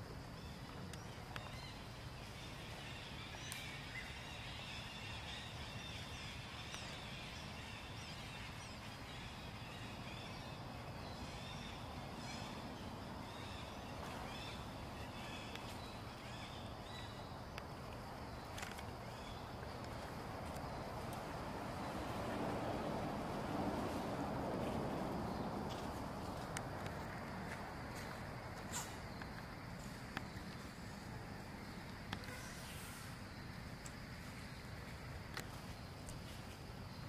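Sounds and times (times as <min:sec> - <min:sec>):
high insect drone: 0:00.0 - 0:37.0
low background noise: 0:00.0 - 0:37.0.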